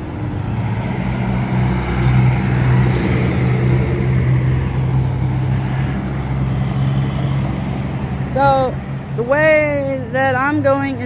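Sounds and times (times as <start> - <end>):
low engine drone of traffic: 0.0 - 11.0.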